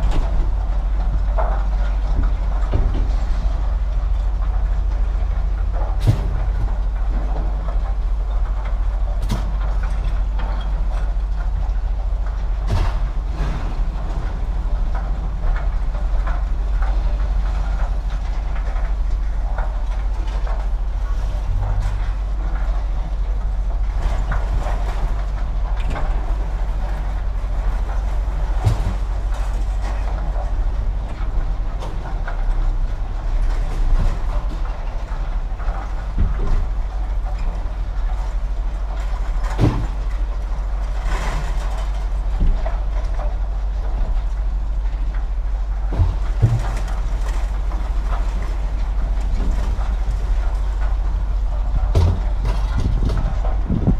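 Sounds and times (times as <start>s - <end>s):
vehicle rumbling in motion: 0.0s - 53.9s.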